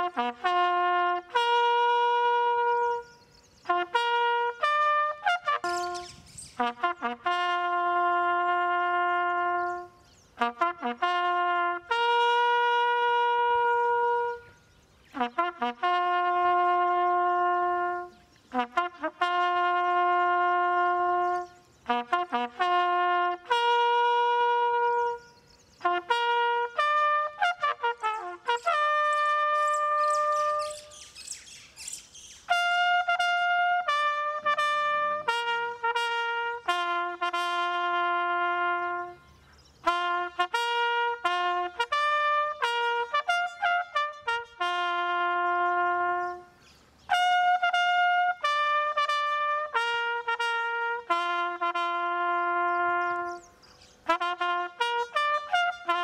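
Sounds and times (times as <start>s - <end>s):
bugle playing long notes: 0.0s - 31.8s, 32.4s - 56.0s.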